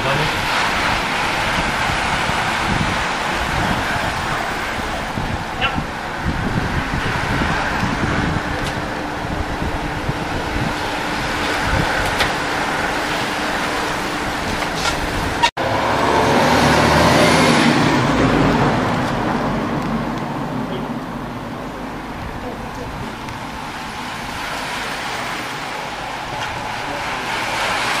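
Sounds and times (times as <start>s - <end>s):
outdoor road noise: 0.0s - 28.0s
rush of passing traffic: 0.0s - 28.0s
wind rumbling on microphone: 0.0s - 28.0s.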